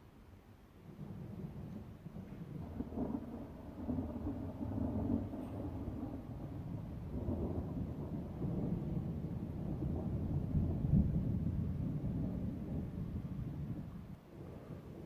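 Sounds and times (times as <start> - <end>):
thunder rumbling: 0.9 - 15.0.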